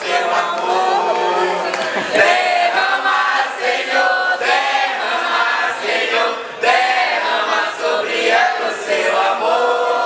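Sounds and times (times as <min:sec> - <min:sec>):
crowd singing together: 0:00.0 - 0:10.0.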